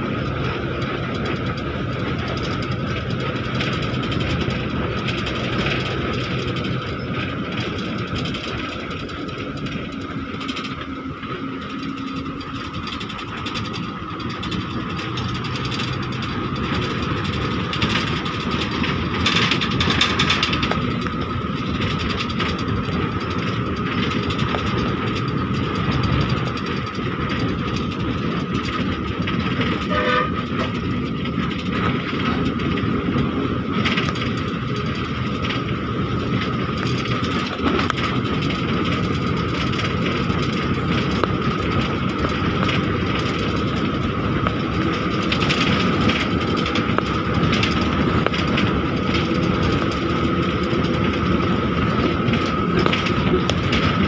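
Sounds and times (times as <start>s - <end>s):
train coach running on track: 0.0s - 54.0s.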